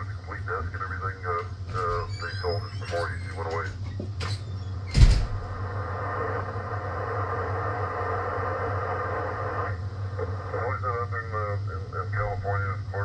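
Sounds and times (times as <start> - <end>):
radio static hiss: 0.0 - 4.3, 4.9 - 13.0
low mains hum: 0.0 - 13.0.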